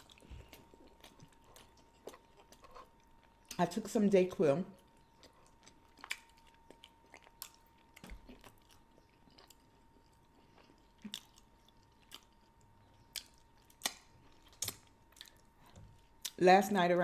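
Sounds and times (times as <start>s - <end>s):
wet chewing mouth sounds: 0.0s - 3.6s, 4.8s - 16.4s.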